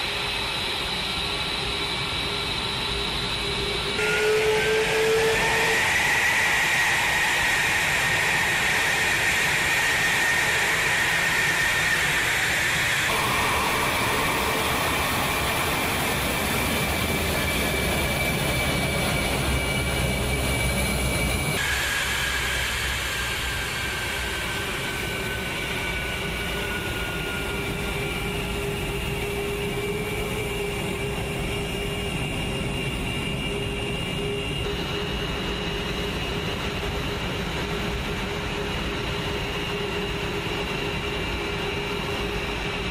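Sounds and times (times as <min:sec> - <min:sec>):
jet engines idling: 0:00.0 - 0:42.9.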